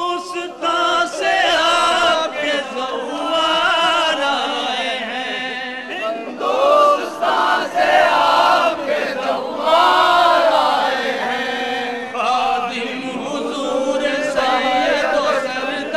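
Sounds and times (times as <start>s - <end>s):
men chanting in unison: 0.0s - 15.9s.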